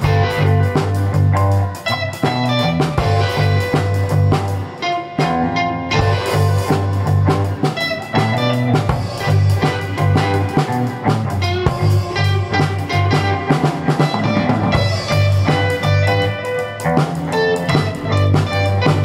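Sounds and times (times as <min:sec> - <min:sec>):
bass line: 0:00.0 - 0:19.0
drum kit beat: 0:00.0 - 0:19.0
electric guitar: 0:00.0 - 0:19.0.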